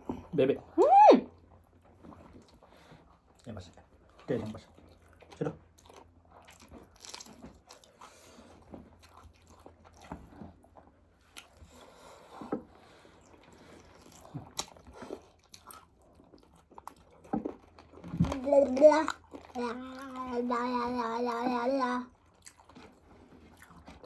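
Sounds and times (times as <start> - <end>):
person chewing food: 1.4 - 21.4, 22.1 - 24.0.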